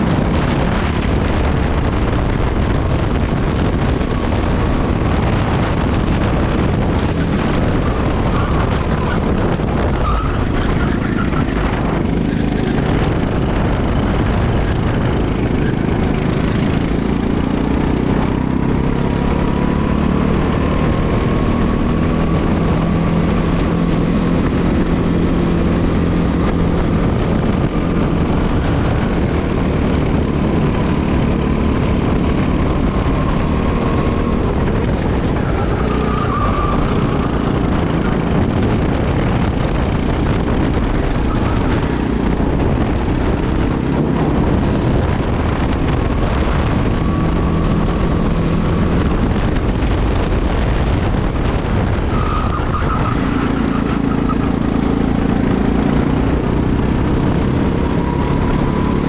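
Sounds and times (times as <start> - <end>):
go-kart engine whine: 0.0 - 59.0.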